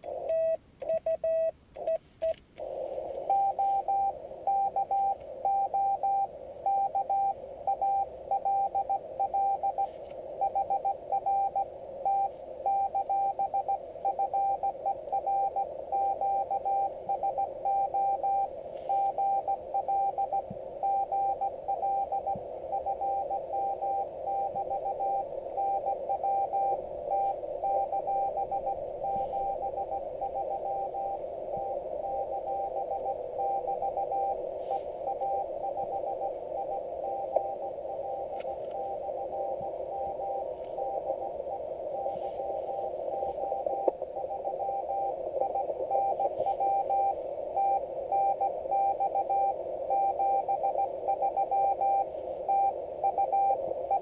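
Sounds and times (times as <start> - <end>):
morse code tone: 0.0 - 54.0
radio band noise hiss: 1.6 - 54.0.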